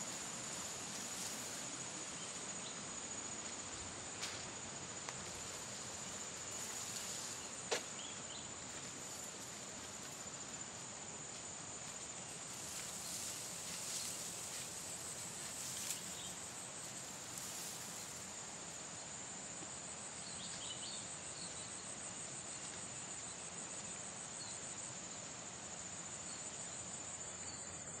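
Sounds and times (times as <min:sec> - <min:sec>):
insects trilling: 0:00.0 - 0:28.0
soft outdoor background noise: 0:00.0 - 0:28.0.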